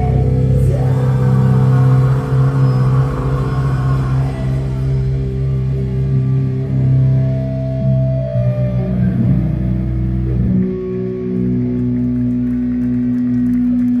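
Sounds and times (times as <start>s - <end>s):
distorted metal guitars and bass: 0.0s - 12.4s.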